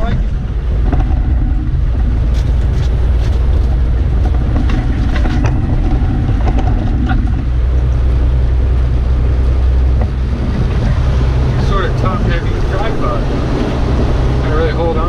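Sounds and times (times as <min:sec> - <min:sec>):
truck cab road and engine rumble: 0:00.0 - 0:15.0.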